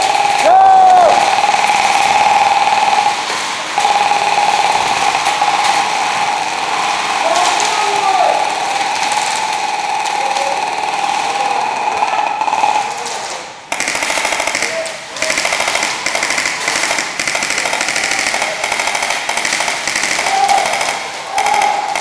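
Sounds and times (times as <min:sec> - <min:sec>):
airsoft guns firing full auto: 0:00.0 - 0:22.0.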